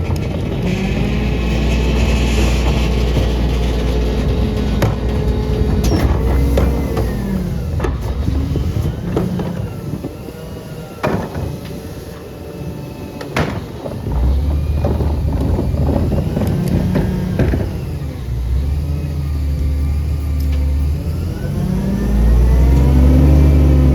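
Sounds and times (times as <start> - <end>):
garbage truck engine running: 0.0 - 23.9.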